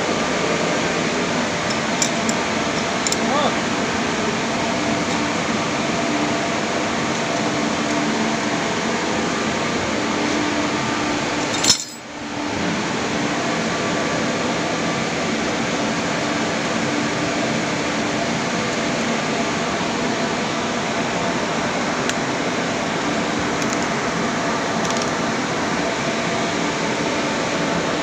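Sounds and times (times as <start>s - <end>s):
machinery drone and hiss: 0.0s - 28.0s.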